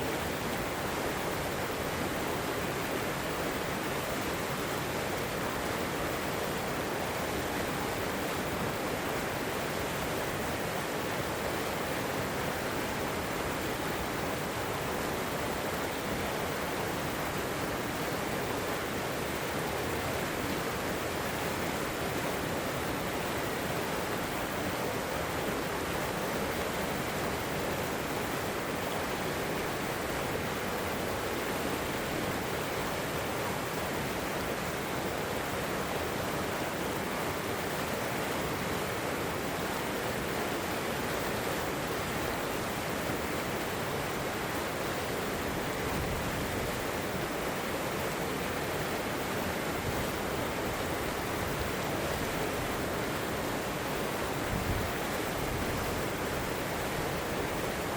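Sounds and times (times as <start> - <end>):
river water rushing over rocks: 0.0 - 57.9.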